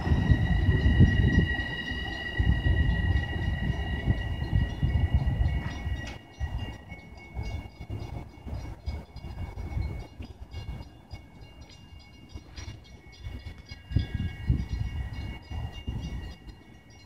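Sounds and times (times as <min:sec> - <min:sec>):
electric train whine: 0:00.0 - 0:17.0
rail rumble: 0:00.0 - 0:17.0.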